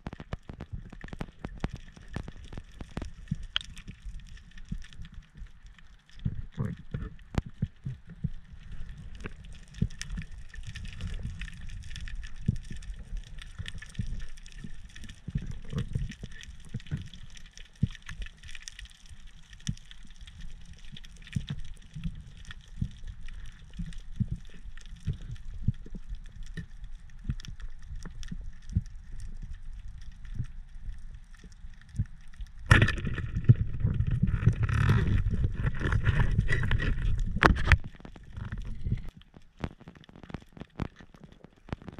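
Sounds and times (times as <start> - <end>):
crackle of small clicks: 0.0 - 41.9
low rumble of moving water: 0.0 - 41.9.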